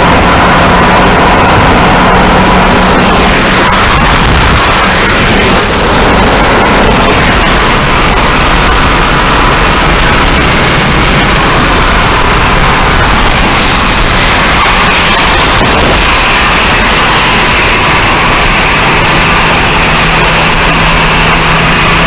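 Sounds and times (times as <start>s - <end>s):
road noise inside car: 0.0s - 22.0s.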